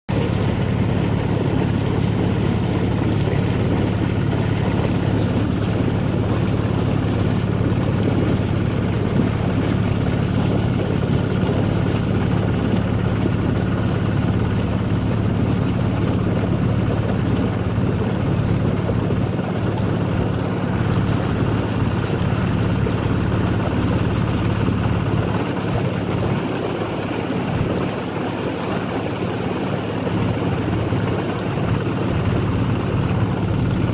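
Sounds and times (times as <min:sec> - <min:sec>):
boat engine humming: 0:00.1 - 0:33.9
water rushing: 0:00.1 - 0:33.9
wind on microphone: 0:00.1 - 0:33.9.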